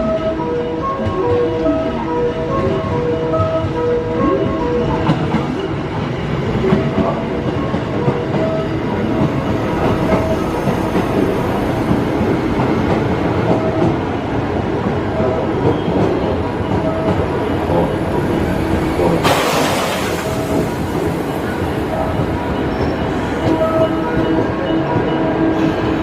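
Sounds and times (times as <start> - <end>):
train wheels rumbling and clattering: 1.0 - 26.0.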